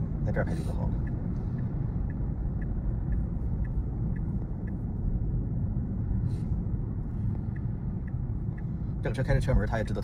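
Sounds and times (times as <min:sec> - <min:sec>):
road and tyre rumble inside car: 0:00.0 - 0:10.0.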